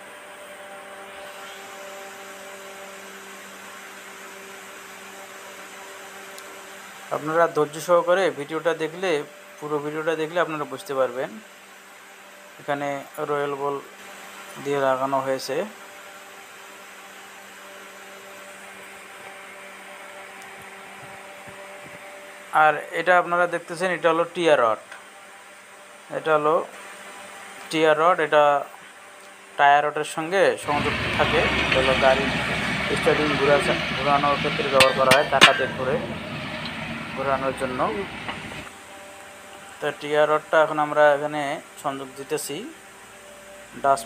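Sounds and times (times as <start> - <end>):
machine hum with whir: 0.0 - 29.6, 30.5 - 44.0.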